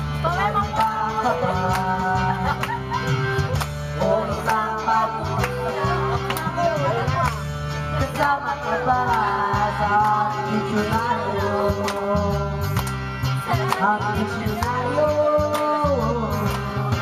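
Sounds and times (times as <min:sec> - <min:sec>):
person singing: 0:00.0 - 0:07.2, 0:07.8 - 0:17.0
acoustic guitar: 0:00.0 - 0:17.0.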